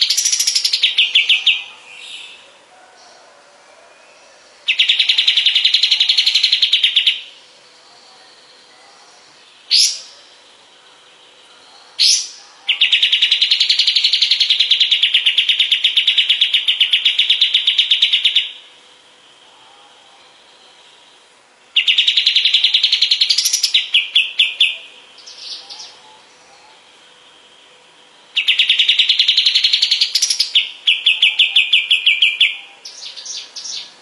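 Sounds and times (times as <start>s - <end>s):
bird singing fast trills: 0.0s - 2.5s, 4.0s - 19.6s, 20.2s - 34.0s.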